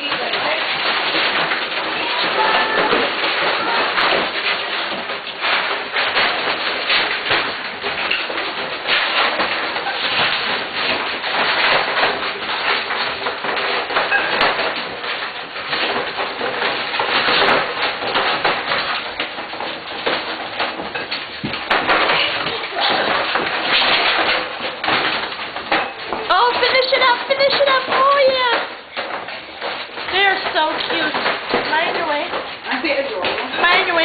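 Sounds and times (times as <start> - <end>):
puppies crunching food: 0.0 - 34.0.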